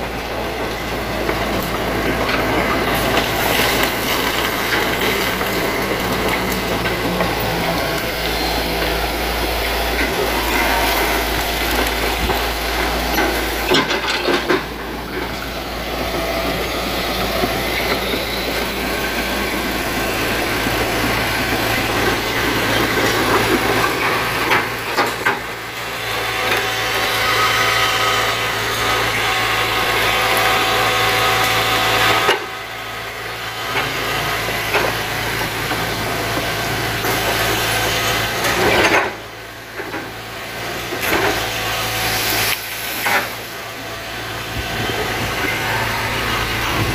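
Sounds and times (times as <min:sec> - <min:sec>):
excavator diesel engine under load: 0:00.0 - 0:46.9.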